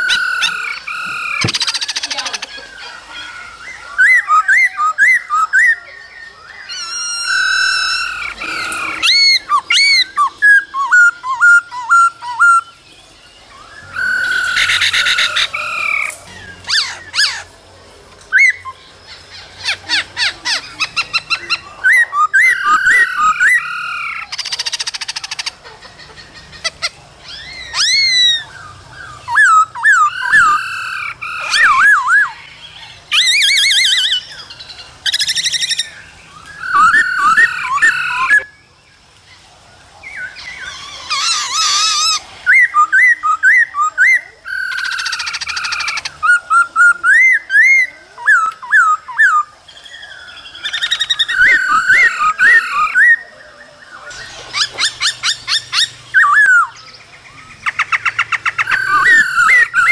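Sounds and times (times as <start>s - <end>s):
bird singing whistled song: 0.0s - 17.5s, 18.3s - 25.6s, 27.2s - 38.6s, 40.0s - 59.9s.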